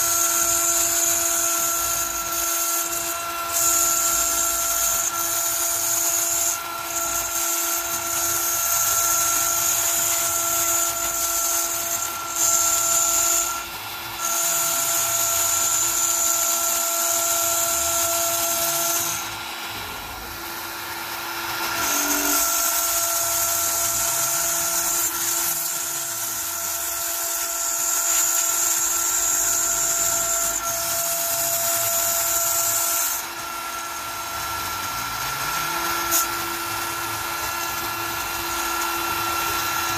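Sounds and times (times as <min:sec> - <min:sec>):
router spindle cutting acrylic: 0:00.0 - 0:39.9.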